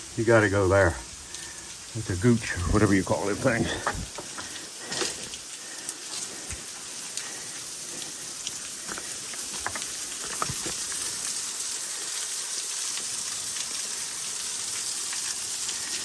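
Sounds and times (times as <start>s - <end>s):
watery hiss: 0.8s - 16.0s.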